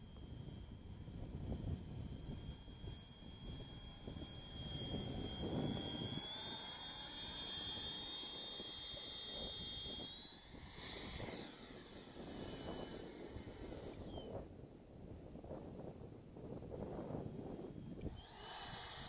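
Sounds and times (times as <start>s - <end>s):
ducted fan jet whine: 0.0s - 19.0s.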